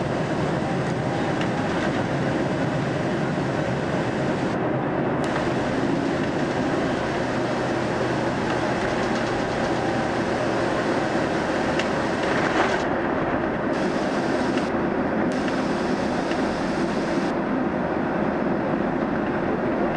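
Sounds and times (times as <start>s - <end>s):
jet engines rumbling: 0.0s - 19.9s.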